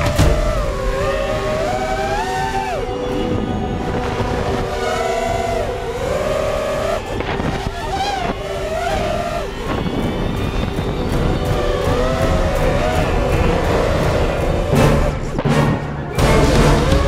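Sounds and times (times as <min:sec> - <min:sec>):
drone motors and propellers whining: 0:00.0 - 0:17.0
wind rush: 0:00.0 - 0:17.0.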